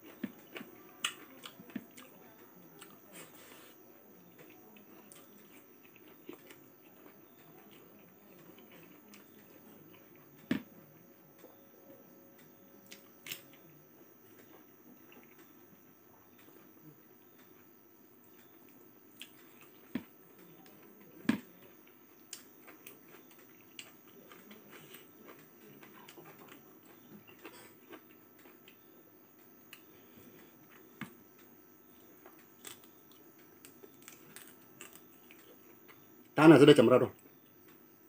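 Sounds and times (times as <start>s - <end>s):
person chewing tough meat: 0.0s - 10.7s, 12.8s - 17.7s, 18.3s - 36.1s.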